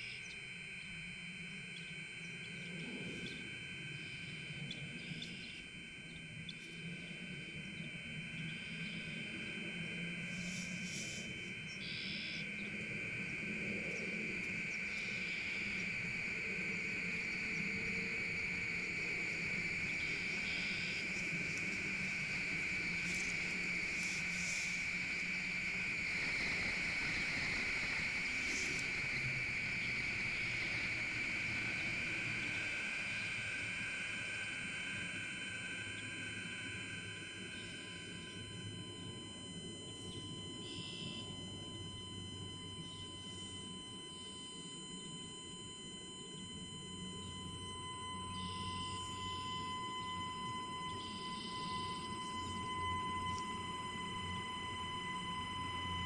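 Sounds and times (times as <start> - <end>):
electronic instrument drone: 0.0 - 56.0.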